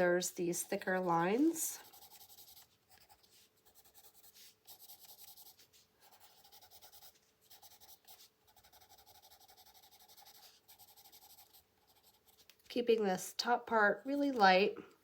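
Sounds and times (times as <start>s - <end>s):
pencil scratching on paper: 0.0s - 12.7s.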